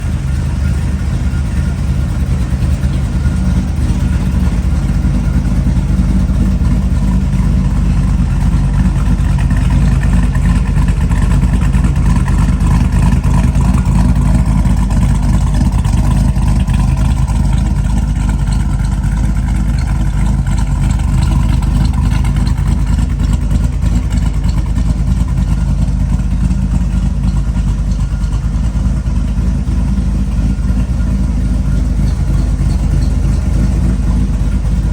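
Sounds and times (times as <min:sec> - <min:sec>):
car engine running: 0:00.0 - 0:34.9.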